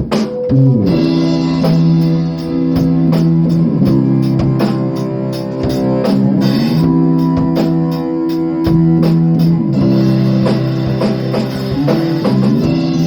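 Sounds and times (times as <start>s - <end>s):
guitar chords: 0.0s - 13.0s
steady drum beat: 0.0s - 13.0s.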